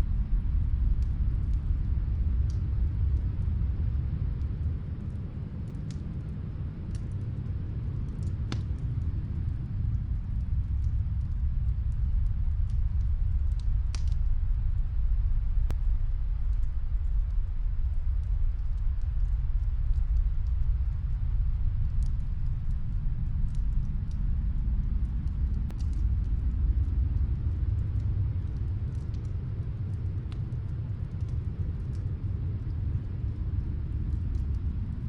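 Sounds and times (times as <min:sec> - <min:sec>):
snowstorm wind rumble: 0:00.0 - 0:35.0
wood fire crackling: 0:00.1 - 0:35.0.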